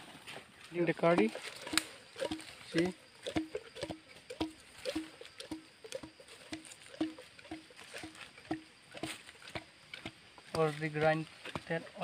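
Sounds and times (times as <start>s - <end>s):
wooden stick pounding in bamboo tube: 1.0s - 12.0s.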